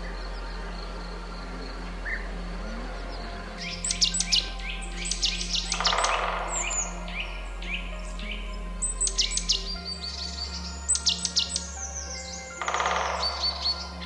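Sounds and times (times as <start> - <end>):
low background ambience: 0.0 - 14.0
birds chirping: 1.4 - 14.0.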